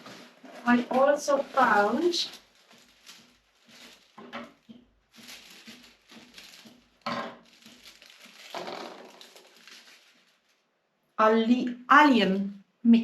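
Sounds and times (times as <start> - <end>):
packet rustling and crinkling: 0.0 - 10.7.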